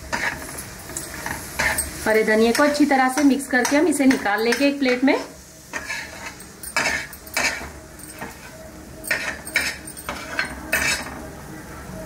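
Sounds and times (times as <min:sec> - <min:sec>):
metal spatula scraping griddle: 0:00.0 - 0:11.2.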